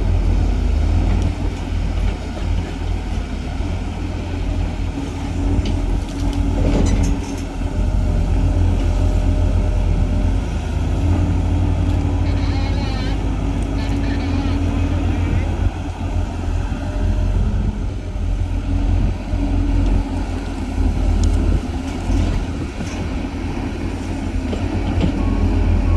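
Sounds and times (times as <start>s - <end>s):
diesel excavator engine rumbling: 0.0s - 25.9s.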